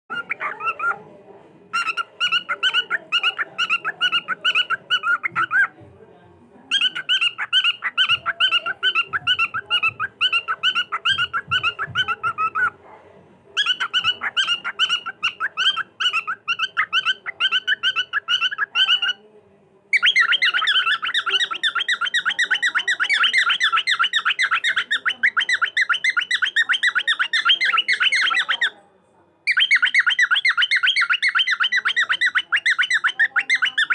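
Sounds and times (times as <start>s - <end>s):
cockatiel chattering: 0.1s - 1.0s, 1.7s - 5.8s, 6.7s - 12.8s, 13.6s - 19.2s, 19.9s - 28.8s, 29.5s - 33.9s.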